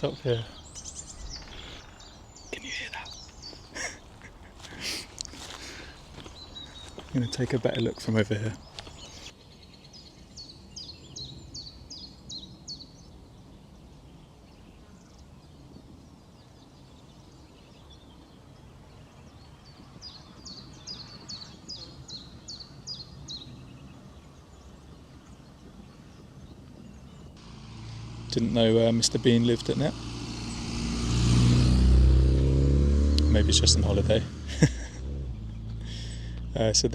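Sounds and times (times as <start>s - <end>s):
low outdoor background: 0.0s - 36.9s
songbird singing: 0.0s - 36.9s.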